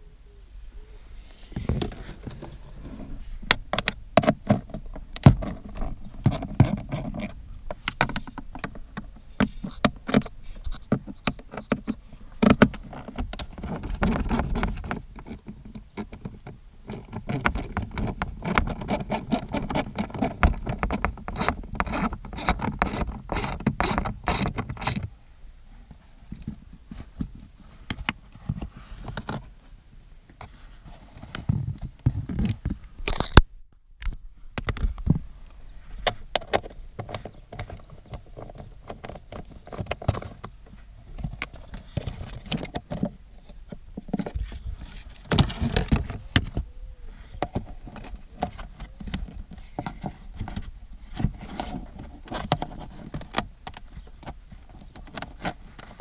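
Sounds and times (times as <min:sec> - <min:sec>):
rustling: 0:00.7 - 0:56.0
clicks taps and scrapes: 0:01.5 - 0:25.1, 0:34.0 - 0:46.7, 0:47.3 - 0:56.0.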